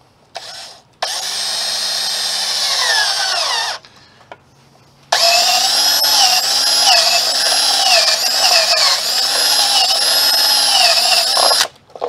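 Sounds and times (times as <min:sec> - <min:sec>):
power drill boring sheet metal: 0:00.4 - 0:03.8, 0:05.1 - 0:11.7.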